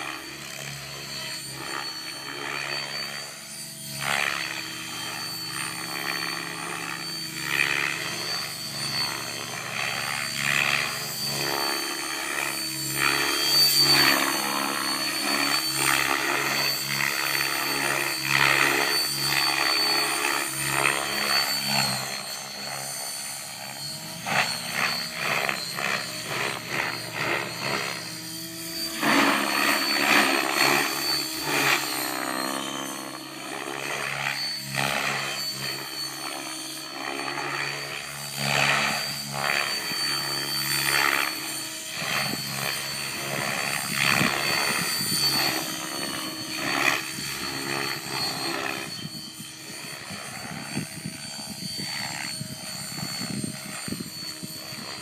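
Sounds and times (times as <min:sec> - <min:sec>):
model helicopter rotor whine: 0:00.0 - 0:55.0.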